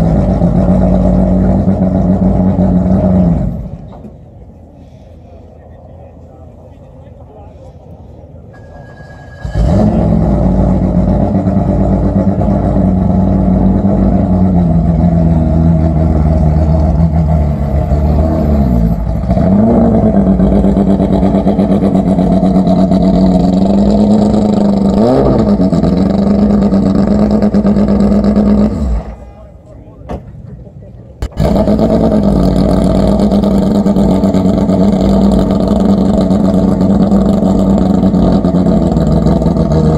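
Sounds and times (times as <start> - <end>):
race car engine revving: 0.0 - 4.0, 8.6 - 29.5, 31.2 - 39.9.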